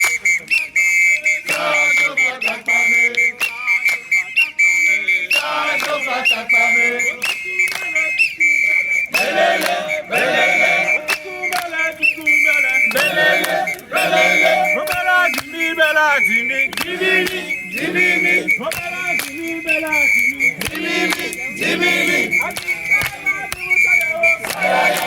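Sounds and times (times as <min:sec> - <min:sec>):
group singing and chanting: 0:00.0 - 0:25.0
whistle blasts: 0:00.0 - 0:25.0.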